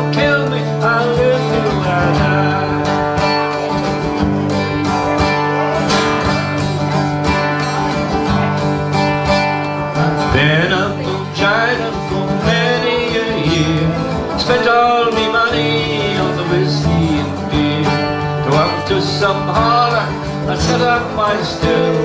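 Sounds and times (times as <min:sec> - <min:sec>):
person singing: 0:00.0 - 0:06.7, 0:09.7 - 0:22.0
acoustic guitars strumming: 0:00.0 - 0:22.0.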